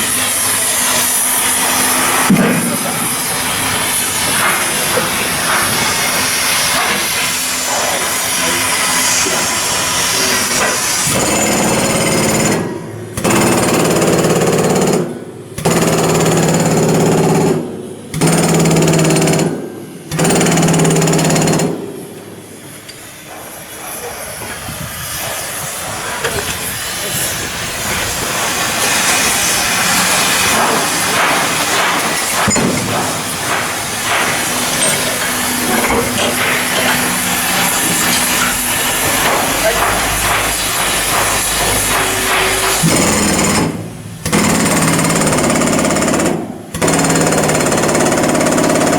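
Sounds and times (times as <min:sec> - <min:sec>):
power tool running: 0:00.0 - 0:23.0, 0:25.4 - 0:48.9
metalworking hissing and clattering: 0:00.0 - 0:48.9.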